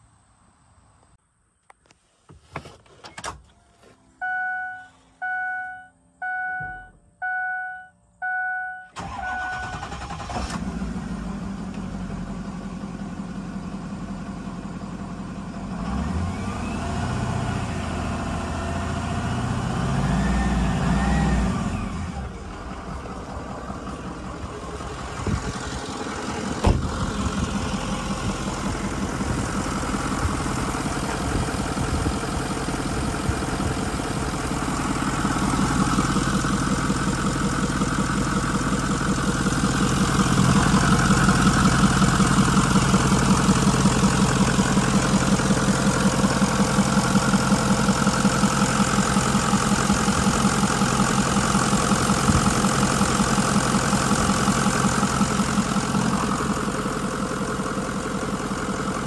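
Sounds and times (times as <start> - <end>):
bus engine idling: 8.2 - 59.0.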